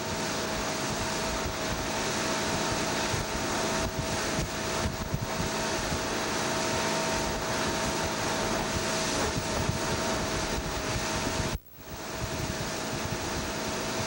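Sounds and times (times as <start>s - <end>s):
boat engine droning: 0.0s - 14.0s
faint steady whine: 0.0s - 14.0s
rushing water: 0.0s - 14.0s
wind: 0.0s - 14.0s.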